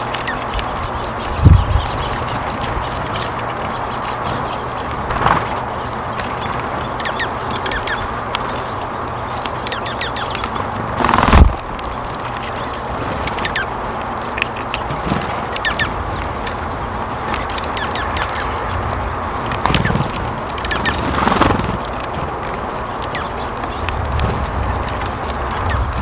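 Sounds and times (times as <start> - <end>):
birds chirping: 0.0 - 26.0
outdoor hiss and low rumble: 0.0 - 26.0.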